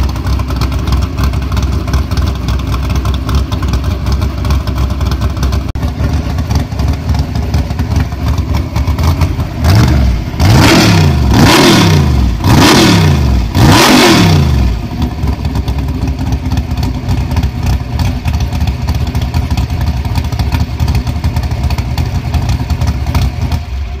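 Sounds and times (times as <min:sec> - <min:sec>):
vi engine idling and revving: 0:00.0 - 0:24.0.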